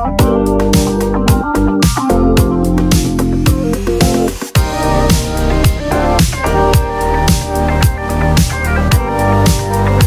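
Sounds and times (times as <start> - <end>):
keyboard chords over a beat: 0.0 - 10.0
low kick drum: 0.2 - 10.0.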